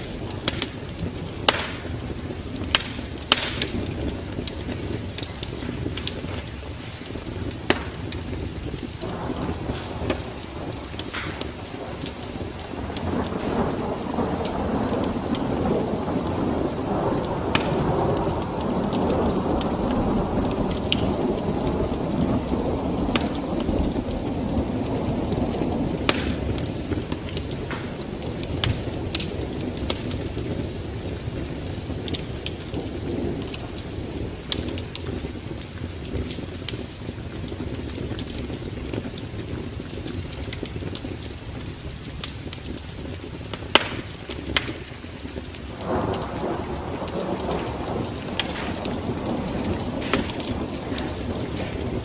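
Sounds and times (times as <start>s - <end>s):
rolling thunder: 0.0s - 40.9s, 41.6s - 52.0s
steady rain: 0.0s - 52.0s
wood fire crackling: 0.0s - 52.0s.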